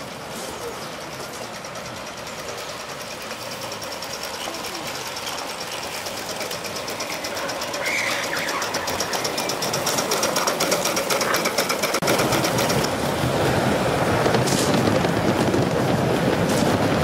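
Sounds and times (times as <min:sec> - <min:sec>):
steam locomotive chuffing: 0:00.0 - 0:17.0
train wagons rumbling past: 0:00.0 - 0:17.0.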